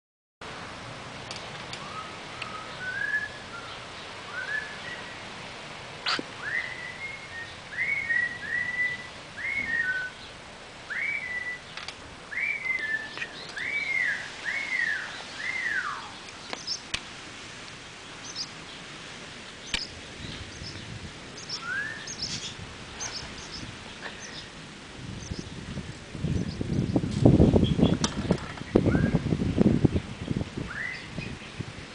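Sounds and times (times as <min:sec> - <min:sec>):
steady outdoor hiss: 0:00.4 - 0:31.9.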